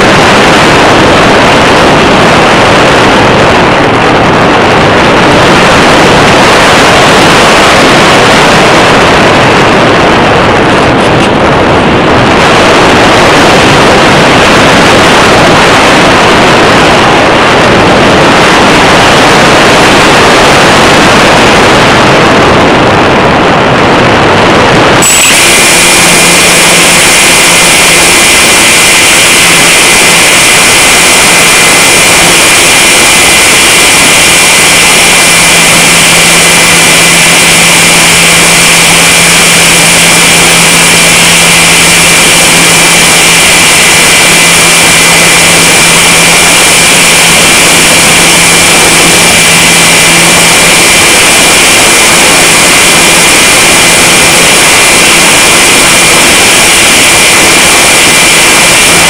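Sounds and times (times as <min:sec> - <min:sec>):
electric motor and propeller whine: 0:00.0 - 0:59.0.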